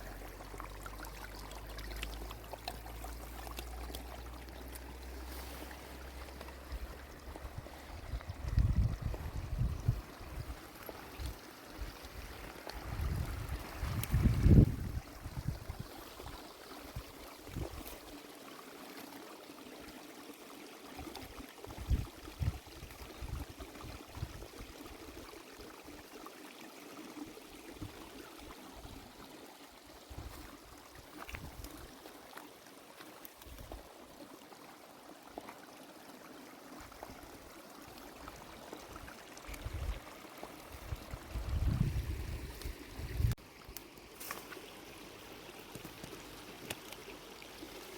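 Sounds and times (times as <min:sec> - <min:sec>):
spring water trickling: 0:00.0 - 0:47.9.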